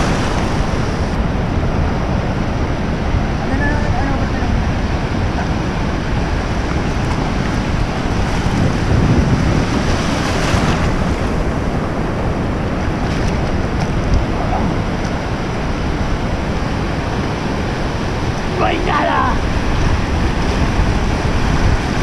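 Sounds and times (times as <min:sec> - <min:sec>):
ocean surf washing around legs: 0:00.0 - 0:22.0
wind buffeting microphone: 0:00.0 - 0:22.0.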